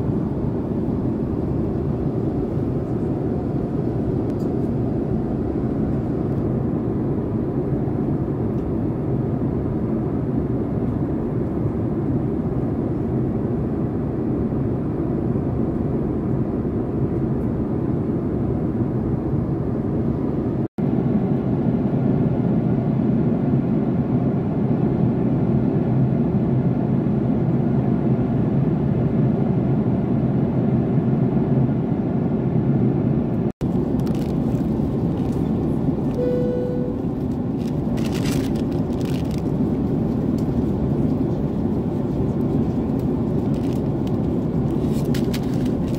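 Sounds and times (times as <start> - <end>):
airplane cabin roar: 0.0 - 45.9.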